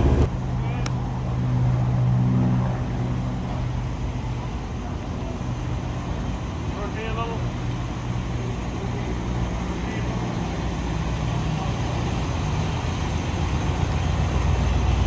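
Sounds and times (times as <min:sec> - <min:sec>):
car engine idling: 0:00.0 - 0:01.4, 0:02.7 - 0:15.0.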